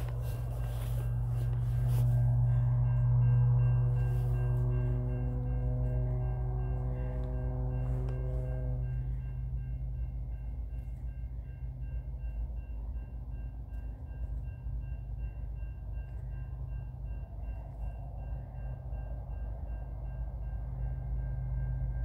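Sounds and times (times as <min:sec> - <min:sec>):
diesel locomotives rumbling: 0:00.0 - 0:22.0
rail and wheel noise: 0:00.0 - 0:22.0
railroad crossing bell ringing: 0:00.0 - 0:22.0.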